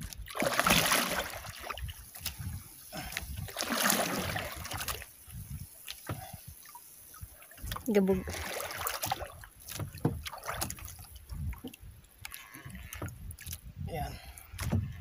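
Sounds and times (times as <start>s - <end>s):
water washing against boat hull: 0.0s - 13.7s, 14.5s - 15.0s.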